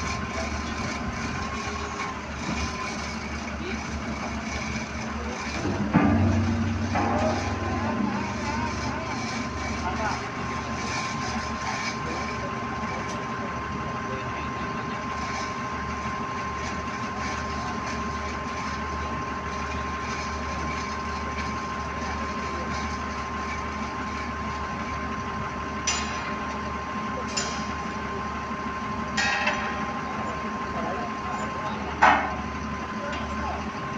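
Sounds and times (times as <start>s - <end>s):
running machinery hum: 0.0s - 33.9s.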